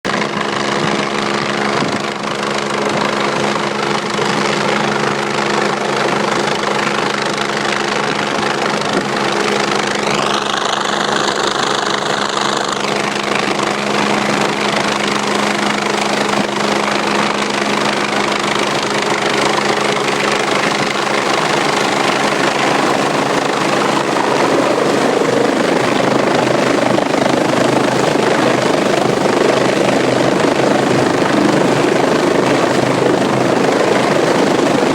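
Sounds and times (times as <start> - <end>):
heavy rushing noise: 0.1 - 34.9
helicopter turbine and rotor hum: 0.1 - 34.9.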